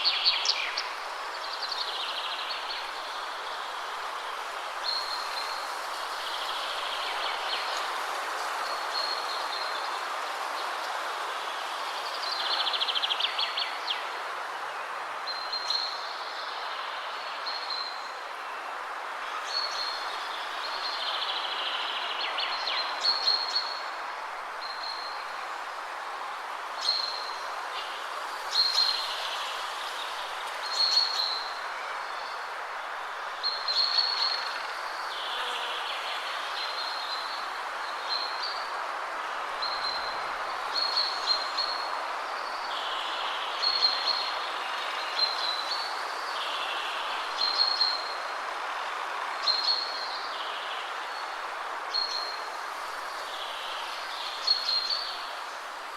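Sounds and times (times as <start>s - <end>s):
songbirds chirping: 0.0s - 55.9s
wind rustling through trees: 0.0s - 55.9s.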